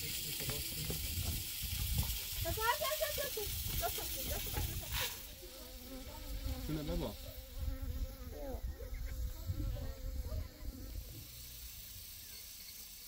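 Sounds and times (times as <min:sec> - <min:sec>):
flying insect buzzing: 0:00.0 - 0:13.0.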